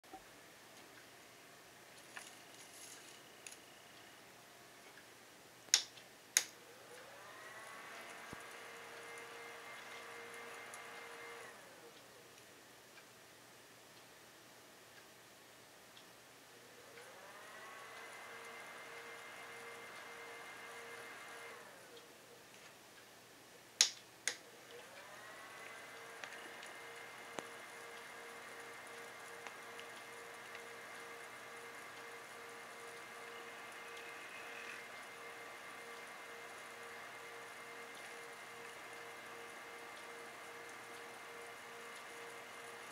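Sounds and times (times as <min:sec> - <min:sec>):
fan motors whining and humming: 0:00.2 - 0:13.0, 0:16.3 - 0:42.9.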